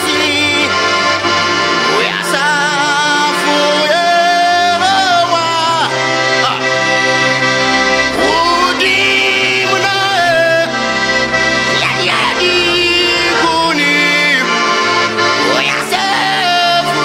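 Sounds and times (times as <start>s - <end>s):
accordion playing a worship tune: 0.0s - 17.0s.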